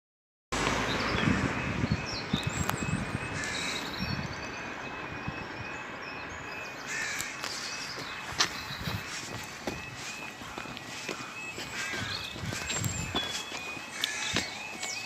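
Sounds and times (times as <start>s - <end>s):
small birds chirping and singing: 0.7s - 15.0s.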